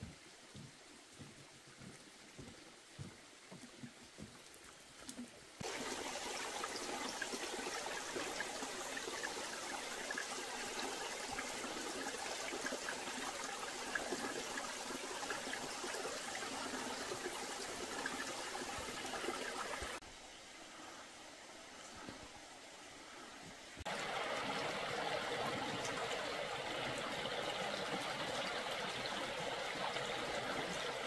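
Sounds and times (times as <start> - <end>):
small stream trickling: 0.0 - 31.0.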